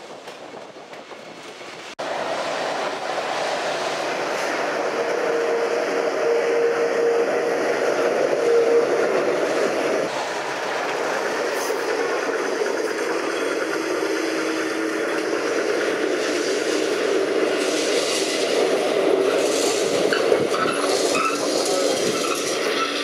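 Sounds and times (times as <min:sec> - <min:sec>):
tram wheels rumbling on rails: 0:00.0 - 0:23.0.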